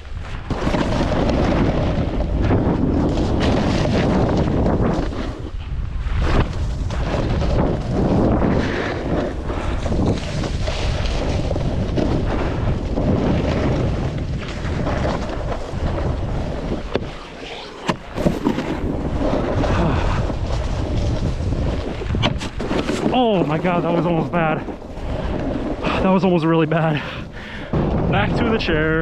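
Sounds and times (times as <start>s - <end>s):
snowboard scraping snow: 0.0s - 27.2s
wind rushing over microphone: 0.0s - 29.0s.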